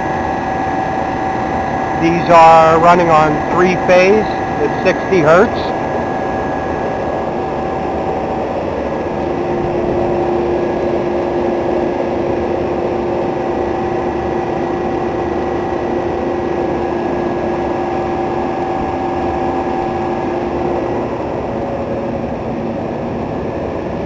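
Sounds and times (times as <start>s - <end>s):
refrigeration compressors humming: 0.0s - 24.0s.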